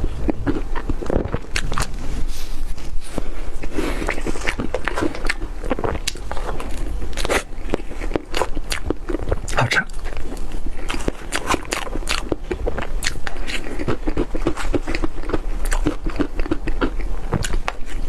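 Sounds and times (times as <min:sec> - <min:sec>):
person chewing and smacking: 0:00.0 - 0:18.0.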